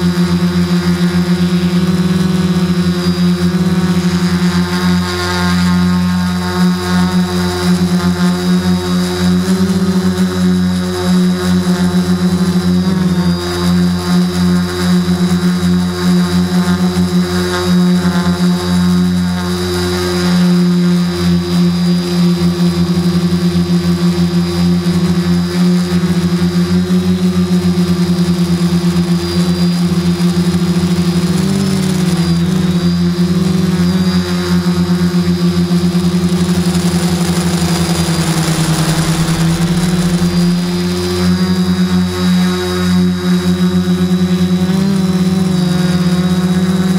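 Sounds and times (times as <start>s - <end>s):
drone propellers fluttering hum: 0.0s - 46.9s
high motor whine: 0.0s - 46.9s.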